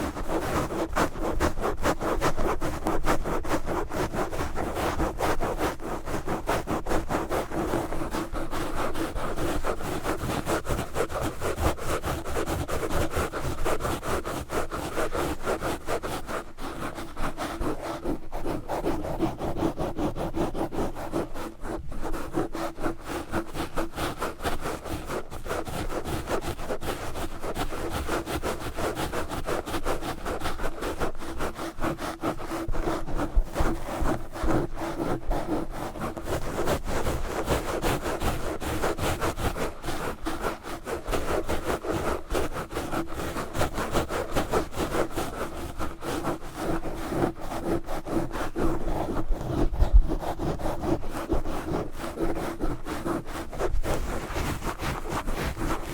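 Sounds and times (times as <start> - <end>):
gloves scratching microphone: 0.0 - 55.9.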